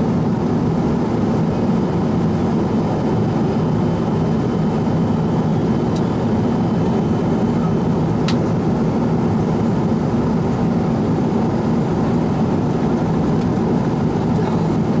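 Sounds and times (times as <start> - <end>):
airplane cabin engine drone: 0.0 - 15.0.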